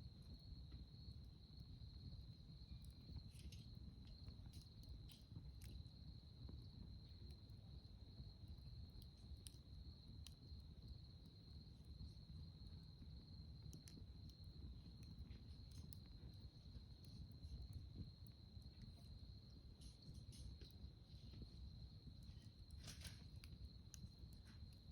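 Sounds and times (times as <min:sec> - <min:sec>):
campfire popping and crackling: 0:02.6 - 0:24.9.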